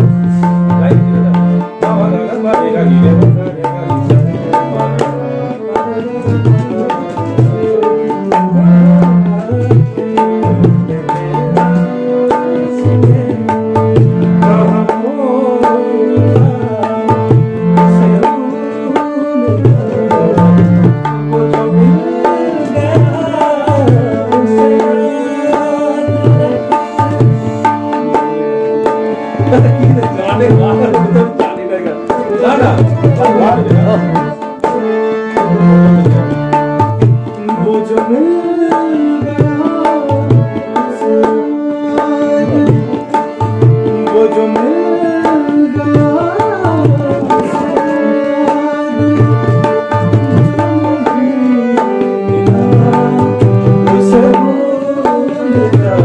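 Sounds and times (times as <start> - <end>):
melody of gliding notes: 0.0 - 56.0
tabla playing: 0.0 - 56.0.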